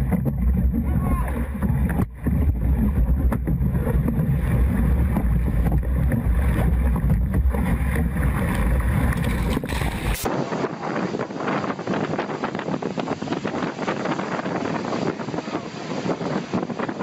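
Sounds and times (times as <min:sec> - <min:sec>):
wave crashing over boat: 0:00.0 - 0:17.0
wind rumble on microphone: 0:00.0 - 0:17.0.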